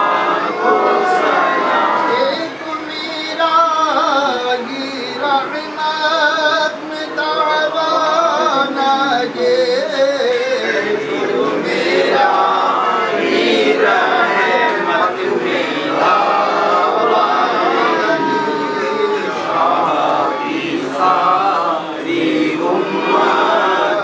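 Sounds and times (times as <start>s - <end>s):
man singing devotional song: 0.0s - 24.0s.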